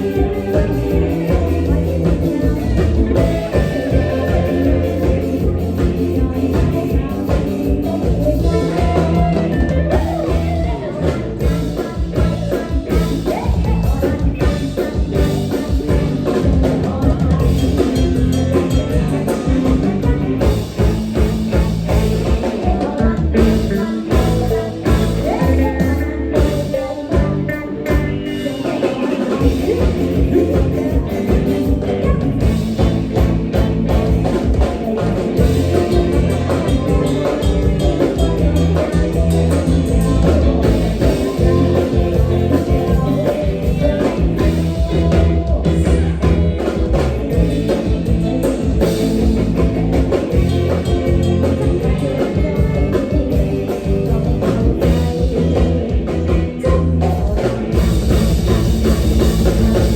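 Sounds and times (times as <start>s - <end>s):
drum kit beat: 0.0s - 59.9s
electric bass: 0.0s - 59.9s
guitar: 0.0s - 59.9s
person singing: 0.0s - 59.9s.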